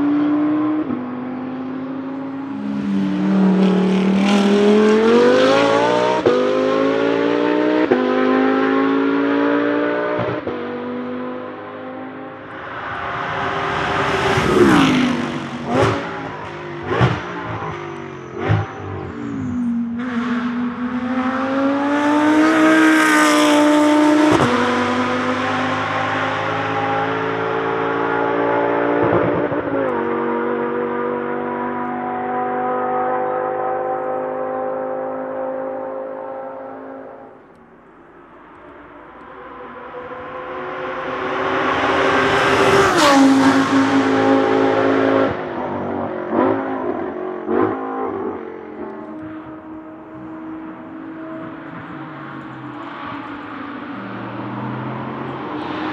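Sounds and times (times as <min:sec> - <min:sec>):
racing car engine accelerating: 0:00.0 - 0:37.6, 0:38.4 - 0:55.9.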